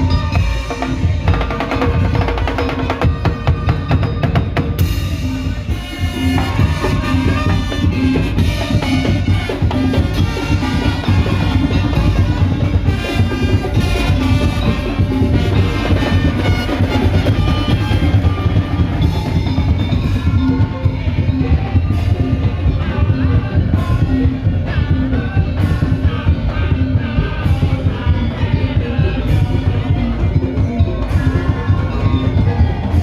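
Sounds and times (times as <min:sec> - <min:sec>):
driving drumming: 0:00.0 - 0:33.0.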